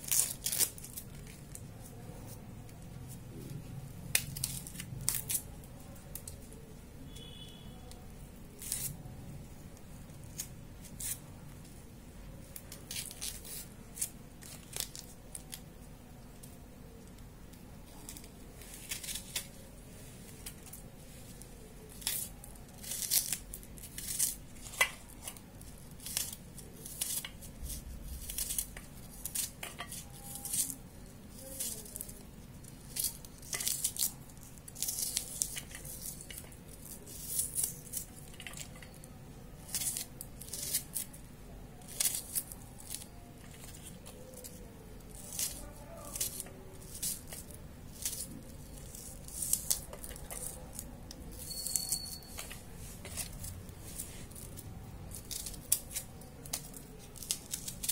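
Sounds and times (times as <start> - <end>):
knife scraping garlic skin: 0.0 - 1.5, 4.1 - 6.5, 7.1 - 9.1, 10.2 - 11.2, 12.6 - 15.7, 18.0 - 19.6, 21.8 - 41.2, 41.8 - 57.9.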